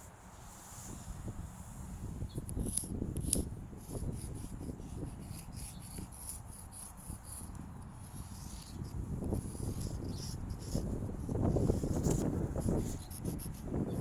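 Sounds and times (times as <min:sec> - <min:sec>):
wind rumbling on microphone: 0:00.0 - 0:14.0
chalk scraping: 0:02.4 - 0:14.0.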